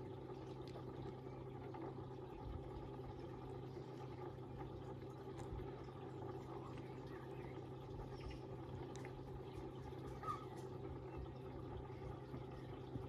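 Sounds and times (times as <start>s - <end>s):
pond filter humming: 0.0s - 13.0s
water flowing: 0.0s - 13.0s.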